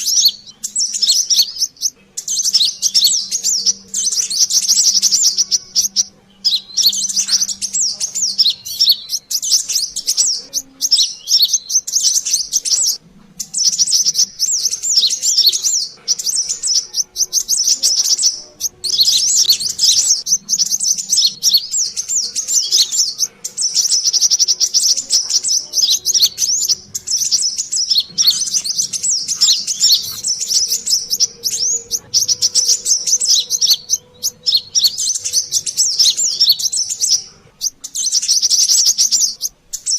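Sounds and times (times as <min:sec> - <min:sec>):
sunbirds chirping and twittering: 0:00.0 - 0:39.9.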